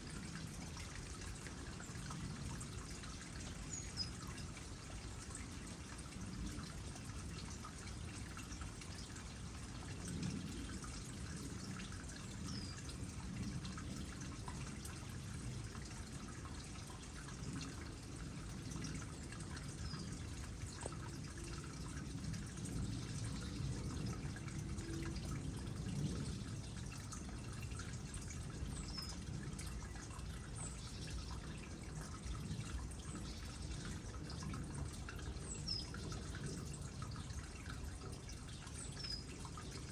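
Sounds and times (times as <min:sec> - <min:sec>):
water drips: 0:00.0 - 0:39.9
water trickling into pond: 0:00.0 - 0:39.9.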